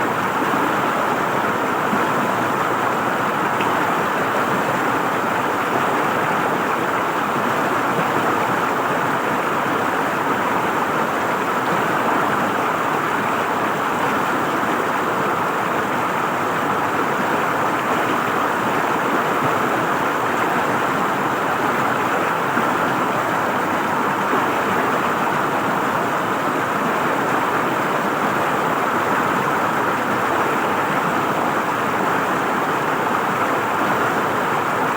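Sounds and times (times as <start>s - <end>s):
river flowing over rocks: 0.0s - 34.9s.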